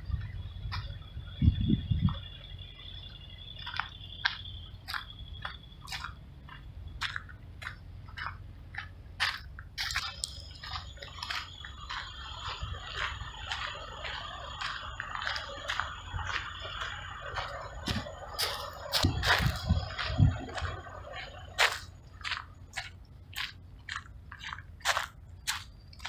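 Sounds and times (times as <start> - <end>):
footsteps crunching on dry ground: 0.0 - 26.0
low rumble: 0.0 - 26.0.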